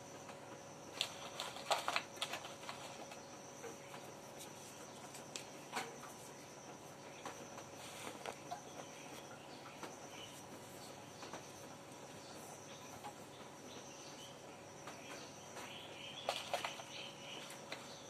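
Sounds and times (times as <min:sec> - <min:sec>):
powder ticking and rustling: 0:00.1 - 0:13.5, 0:14.8 - 0:18.0.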